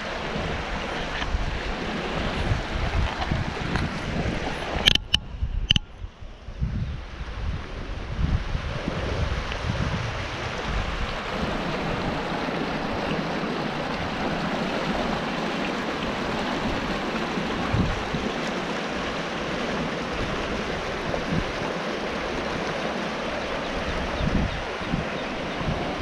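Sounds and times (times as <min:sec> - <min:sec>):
river water rushing over rocks: 0:00.0 - 0:05.0, 0:08.0 - 0:26.0
wind buffeting microphone: 0:00.0 - 0:26.0.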